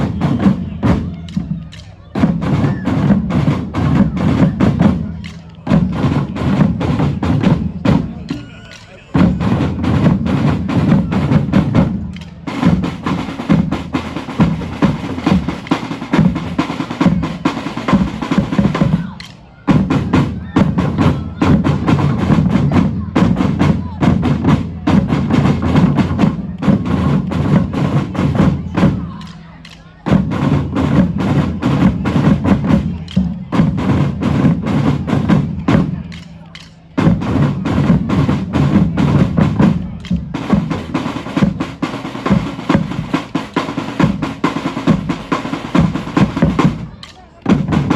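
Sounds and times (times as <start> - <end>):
drum band playing: 0.0 - 47.9.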